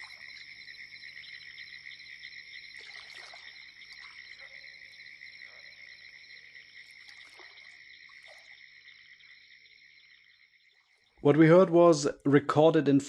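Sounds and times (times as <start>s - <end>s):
chorus of frogs and insects: 0.0s - 11.9s.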